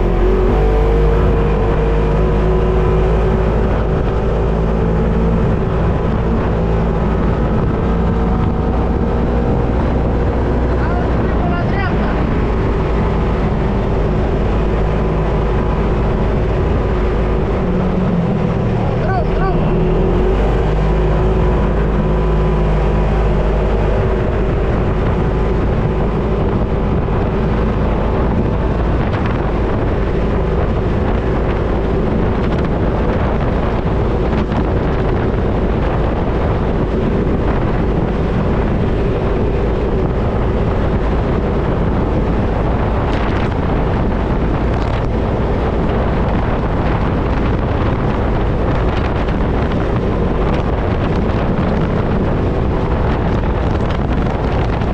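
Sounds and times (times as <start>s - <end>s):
off-road vehicle engine running: 0.0s - 54.9s
wind rumbling on microphone: 0.0s - 54.9s.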